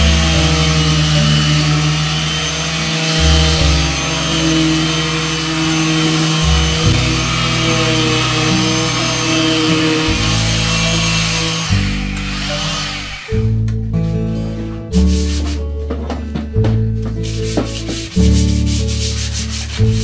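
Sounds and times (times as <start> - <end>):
background music with sustained chords: 0.0 - 20.0.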